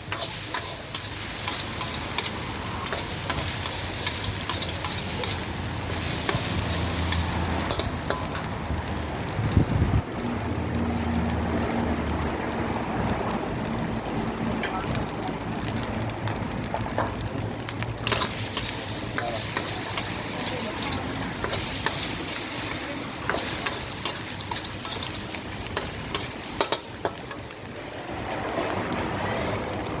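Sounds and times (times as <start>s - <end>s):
oil sizzling in a pan: 0.0s - 30.0s.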